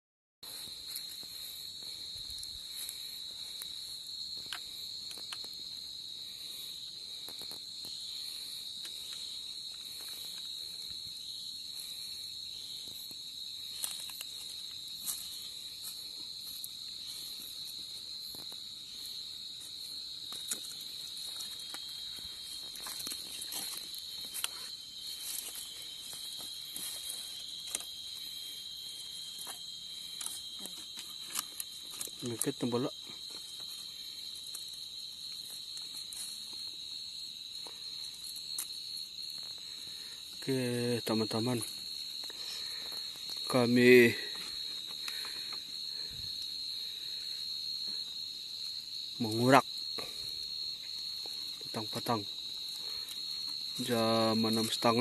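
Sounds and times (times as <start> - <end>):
insects chirring: 0.4 - 55.0
lower insect tone: 0.4 - 55.0.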